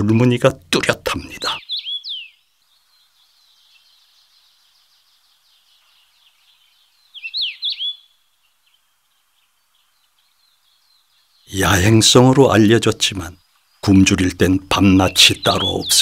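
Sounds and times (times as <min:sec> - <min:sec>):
bird chirps: 0:00.0 - 0:16.0
faint high twittering: 0:01.0 - 0:16.0.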